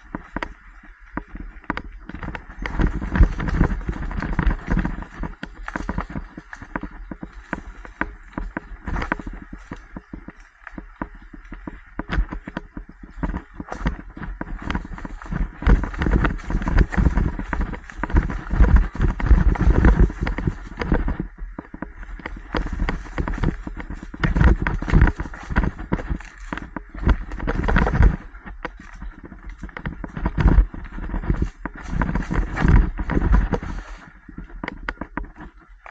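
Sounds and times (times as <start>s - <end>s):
bike rattling over rough ground: 0.0s - 35.9s
wind on microphone: 0.0s - 35.9s.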